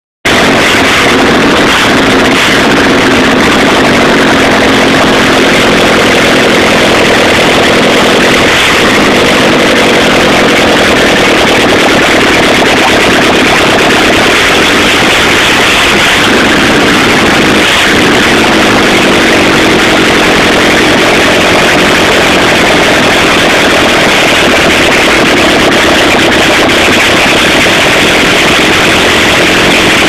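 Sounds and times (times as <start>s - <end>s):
car engine running loudly: 0.2s - 30.0s.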